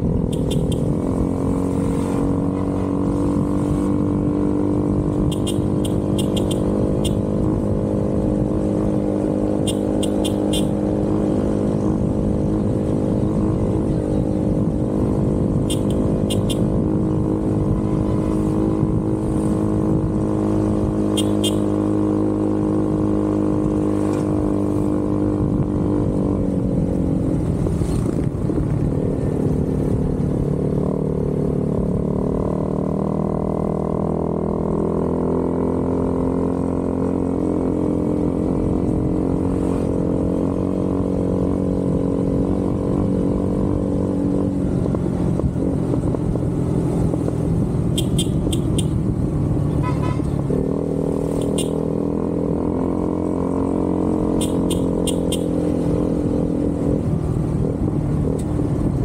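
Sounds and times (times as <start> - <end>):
motorcycle engine: 0.0 - 59.0
wind and road noise: 0.0 - 59.0.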